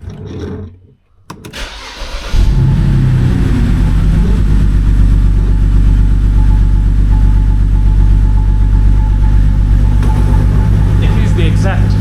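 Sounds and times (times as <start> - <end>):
car engine starting and idling: 1.3 - 12.0.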